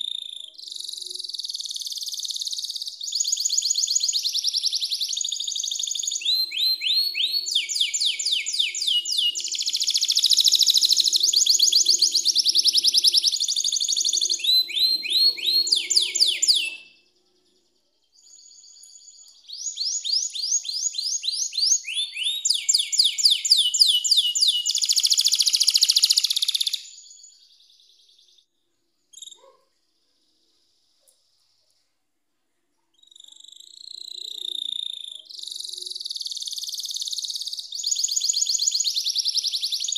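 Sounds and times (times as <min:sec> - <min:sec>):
canary singing trills: 0:00.0 - 0:28.4, 0:29.1 - 0:29.7, 0:32.9 - 0:39.9
faint bird chirps: 0:00.0 - 0:39.9.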